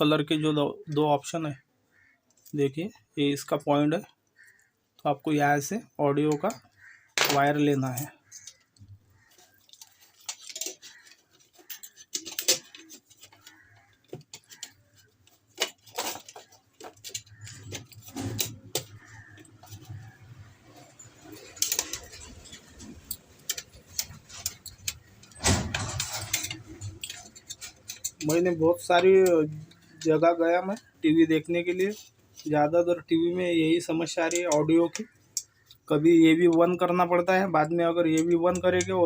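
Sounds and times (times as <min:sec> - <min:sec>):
small parts and tools clicking: 0:06.3 - 0:32.6, 0:33.8 - 0:39.0.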